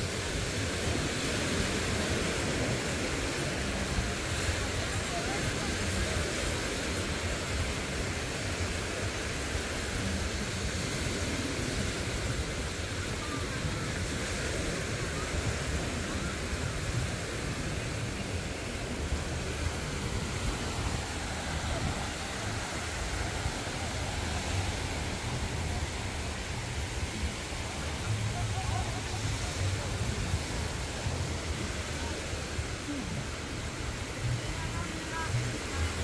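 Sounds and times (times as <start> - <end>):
small waves breaking on shore: 0.0 - 36.0
wind on microphone: 0.0 - 36.0.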